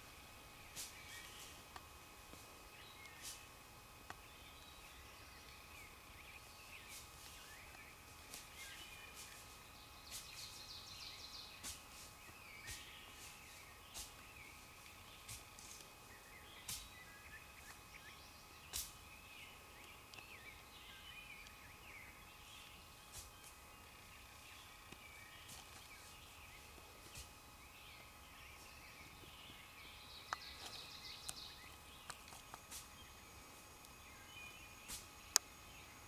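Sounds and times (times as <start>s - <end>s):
steady low hiss: 0.0s - 36.0s.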